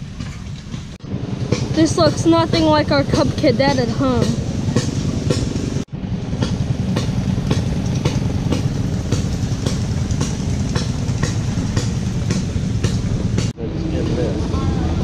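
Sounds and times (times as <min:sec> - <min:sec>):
engine running low rumble: 0:00.0 - 0:15.0.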